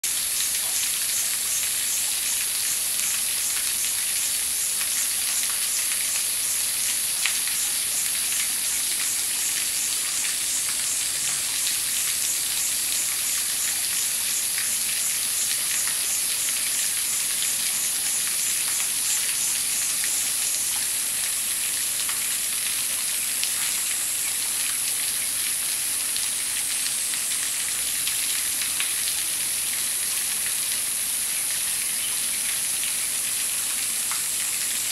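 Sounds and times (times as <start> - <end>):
flowing water hiss: 0.0 - 34.9.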